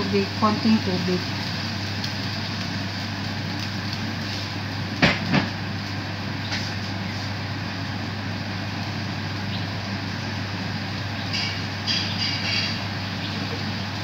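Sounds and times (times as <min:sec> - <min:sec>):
frying pan hissing: 0:00.0 - 0:14.0.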